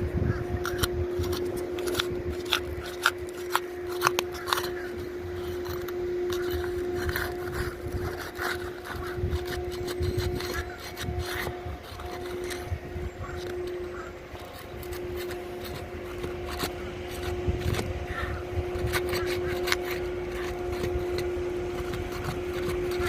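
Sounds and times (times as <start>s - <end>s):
steady hum: 0.0s - 23.0s
shingles scraping and cracking: 0.6s - 23.0s.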